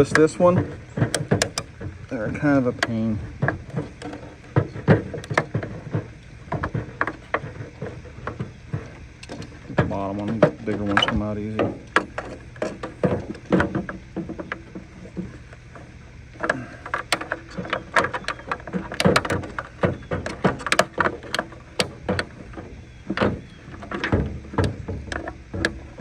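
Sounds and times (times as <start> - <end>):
plastic clicks and knocks: 0.0 - 26.0.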